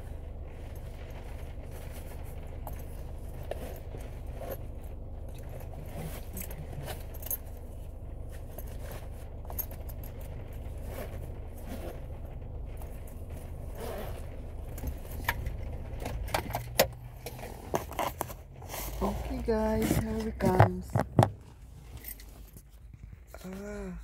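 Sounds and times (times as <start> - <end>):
car drone inside cabin: 0.0 - 24.0
light jingling and rattling clicks: 0.5 - 18.4, 21.8 - 23.6.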